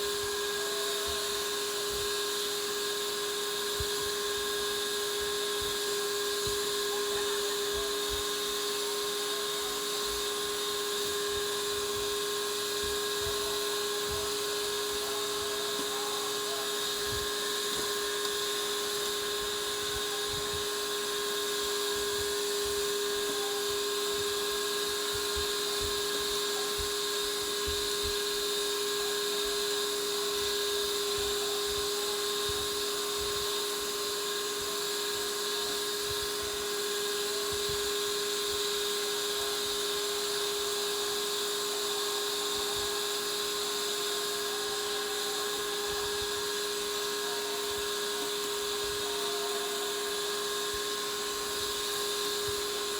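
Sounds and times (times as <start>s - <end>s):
appliance motor whining: 0.0s - 52.9s.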